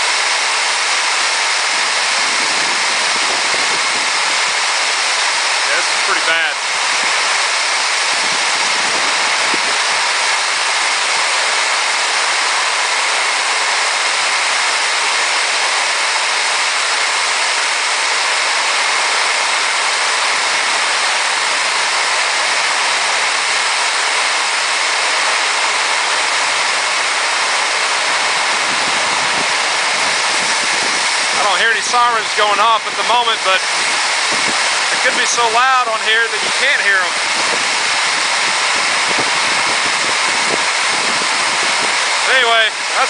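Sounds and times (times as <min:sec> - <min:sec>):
heavy rain on a tin roof: 0:00.0 - 0:43.0.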